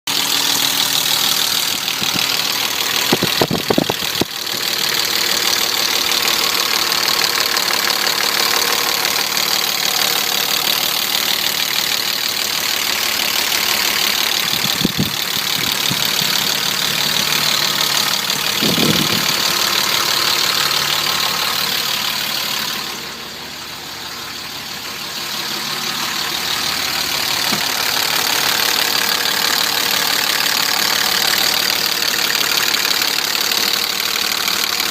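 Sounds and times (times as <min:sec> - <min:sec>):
car engine idling: 0:00.0 - 0:34.9
engine knocking: 0:00.0 - 0:34.9.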